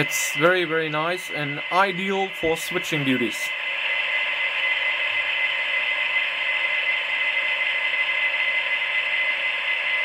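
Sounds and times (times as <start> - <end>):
model locomotive diesel rumble: 0.0 - 10.0.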